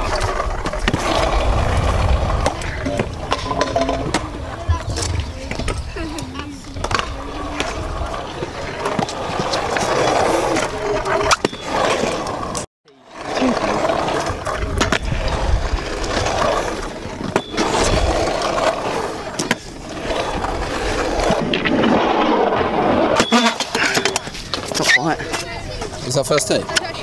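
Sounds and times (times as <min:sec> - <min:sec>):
scooter wheels rolling on concrete: 0:00.0 - 0:27.0.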